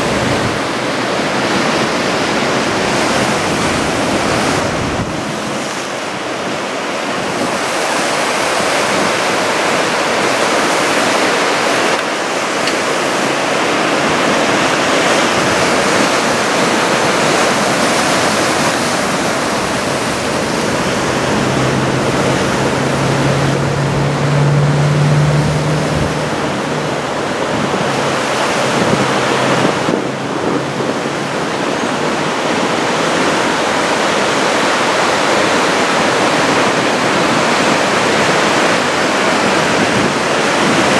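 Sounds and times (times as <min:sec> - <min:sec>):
surf crashing ashore: 0:00.0 - 0:40.9
wind buffeting microphone: 0:00.0 - 0:40.9.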